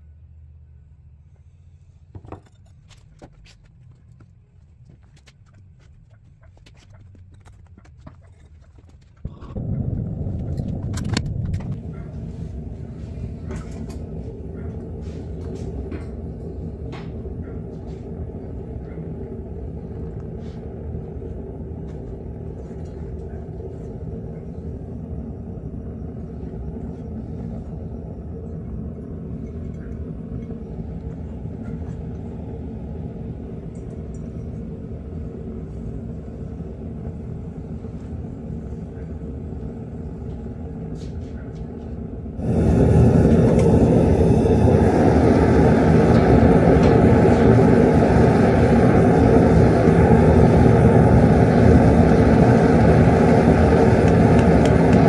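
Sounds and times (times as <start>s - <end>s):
propane burner roaring: 4.8s - 55.0s.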